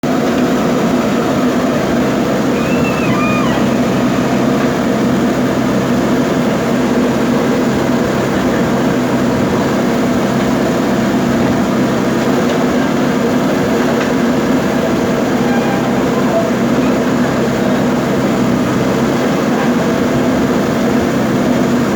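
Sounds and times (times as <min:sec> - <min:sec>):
diesel engine humming: 0:00.0 - 0:21.9.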